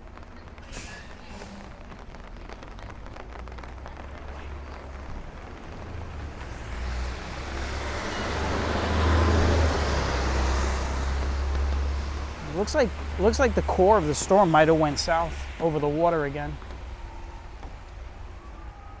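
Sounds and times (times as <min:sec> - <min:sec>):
tyre hiss on wet pavement: 0:00.0 - 0:18.0
low traffic rumble: 0:00.0 - 0:19.0.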